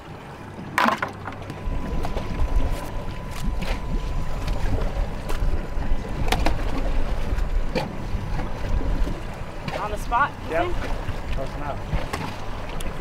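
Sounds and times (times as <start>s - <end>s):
water lapping at hull: 0.0s - 13.0s
wind rumble on microphone: 0.0s - 13.0s.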